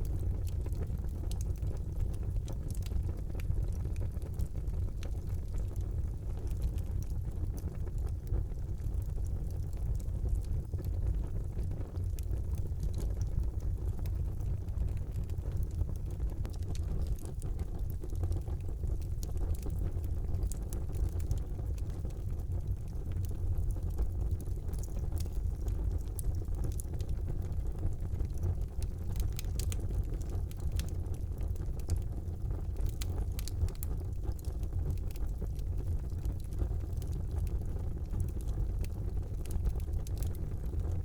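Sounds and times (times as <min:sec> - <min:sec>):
fire crackling and popping: 0:00.0 - 0:41.0
low rumble of flames: 0:00.0 - 0:41.0.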